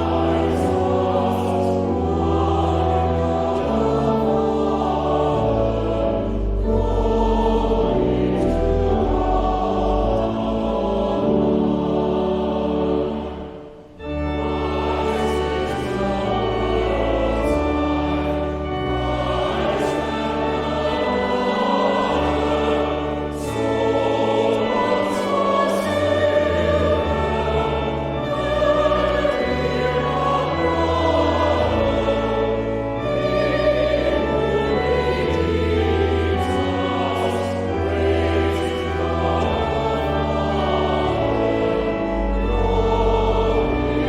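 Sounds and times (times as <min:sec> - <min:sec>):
choir singing a hymn: 0:00.0 - 0:44.0
pipe organ: 0:00.0 - 0:44.0.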